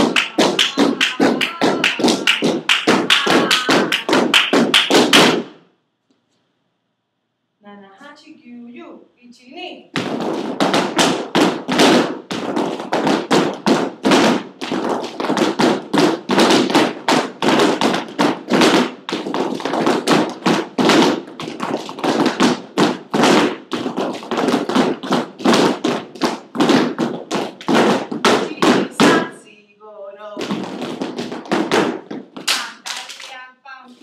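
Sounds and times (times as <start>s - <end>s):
flamenco footwork on hard floor: 0.0s - 5.6s, 9.9s - 29.4s, 30.3s - 34.0s.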